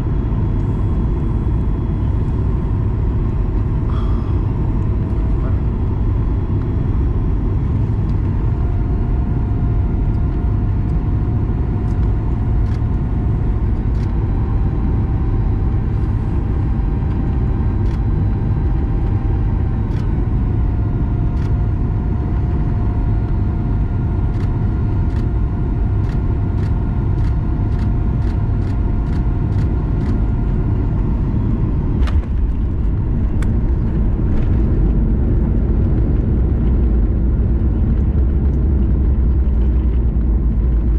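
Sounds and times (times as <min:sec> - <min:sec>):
aircraft engines and airflow rumble: 0:00.0 - 0:40.9
droning engine tone: 0:00.0 - 0:40.9.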